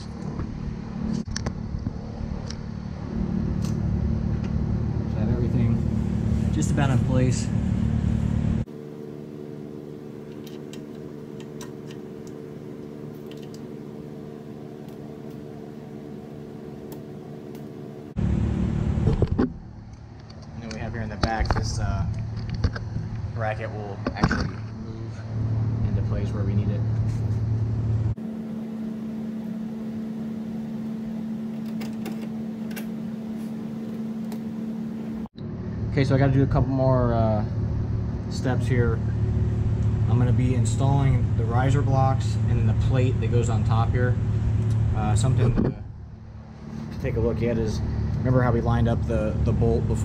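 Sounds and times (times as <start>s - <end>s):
low hum: 0.0s - 50.0s.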